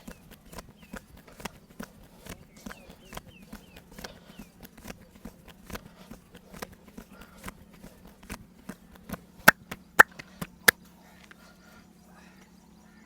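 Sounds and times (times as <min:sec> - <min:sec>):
hands tapping and slapping skin: 0:00.0 - 0:10.8.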